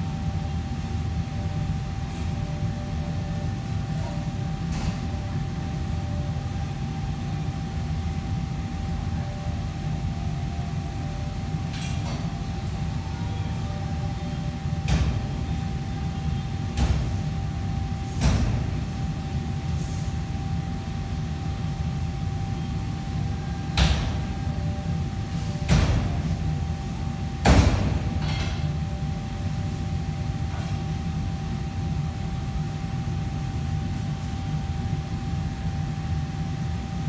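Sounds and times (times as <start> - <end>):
constant thin hum: 0.0 - 37.0.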